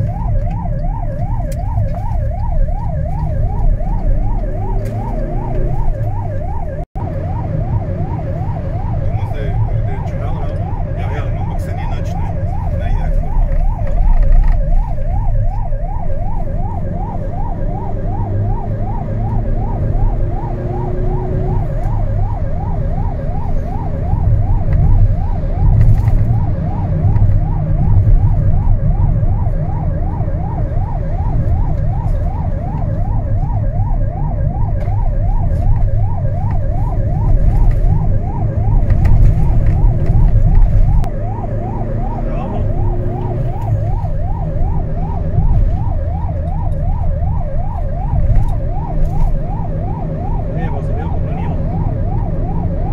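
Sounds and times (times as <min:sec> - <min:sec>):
electronic siren yelping: 0:00.0 - 0:52.9
engine and road rumble: 0:00.0 - 0:52.9.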